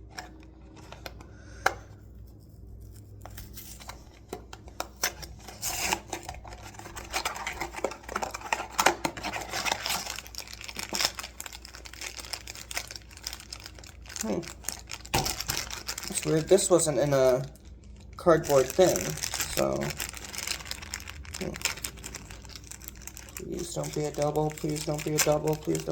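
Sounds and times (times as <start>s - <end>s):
packaging rustling and tearing: 1.9s - 25.9s.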